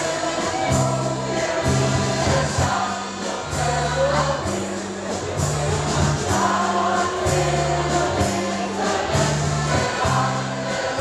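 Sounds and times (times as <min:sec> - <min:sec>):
accordion: 0:00.0 - 0:11.0
bass line: 0:00.0 - 0:11.0
drum and cymbal strokes: 0:00.0 - 0:11.0
mixed choir singing: 0:00.0 - 0:11.0.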